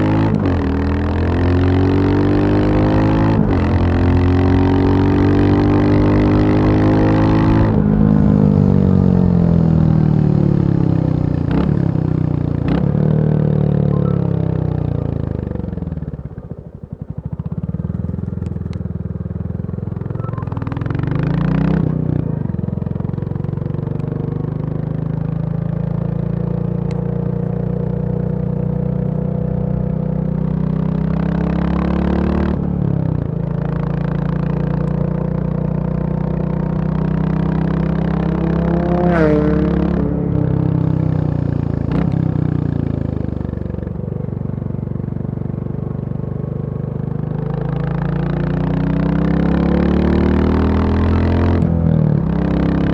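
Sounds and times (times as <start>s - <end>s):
single-cylinder motorcycle engine: 0.0s - 52.9s.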